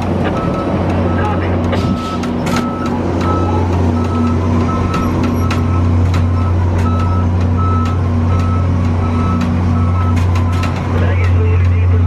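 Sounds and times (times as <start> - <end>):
cart rattles: 0.0 - 12.0
cart running hum: 0.0 - 12.0
warning beeper: 0.4 - 10.7.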